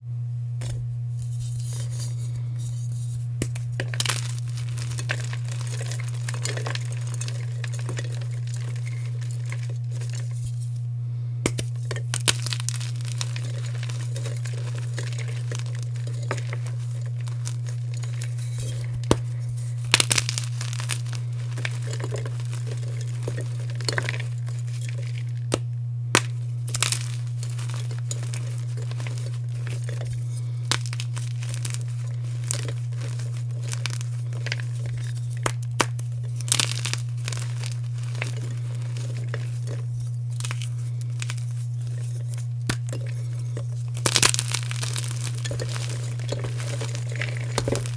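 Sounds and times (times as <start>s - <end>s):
steady low hum: 0.0s - 47.9s
chalk crunching by hand: 0.6s - 10.8s, 11.5s - 25.6s, 26.2s - 47.9s.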